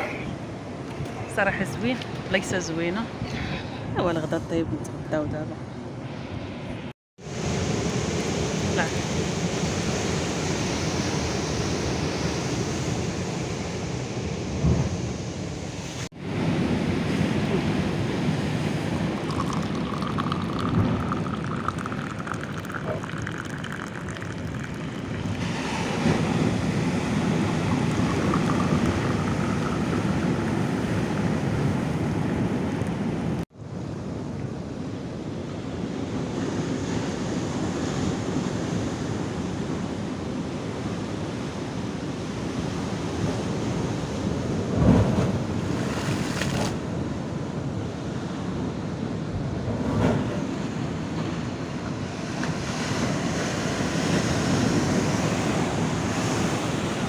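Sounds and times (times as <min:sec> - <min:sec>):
ocean surf washing ashore: 0:06.1 - 0:57.0.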